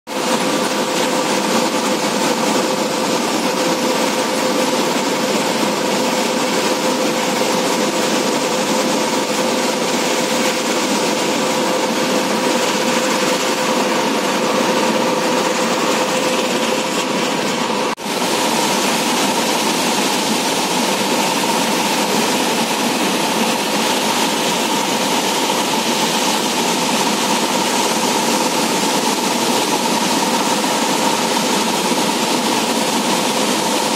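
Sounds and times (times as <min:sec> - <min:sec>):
floodwater rushing through spillway: 0:00.2 - 0:33.9.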